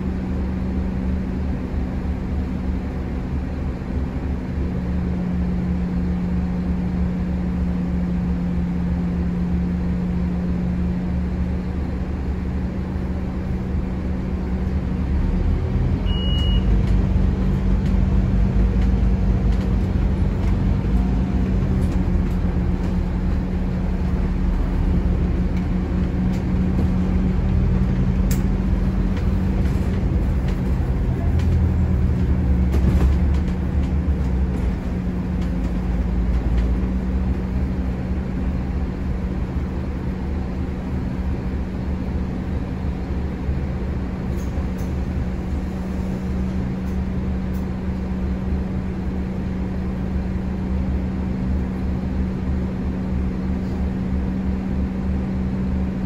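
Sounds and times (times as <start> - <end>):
bus diesel engine drone: 0.0 - 56.0
road noise rumble: 0.0 - 56.0.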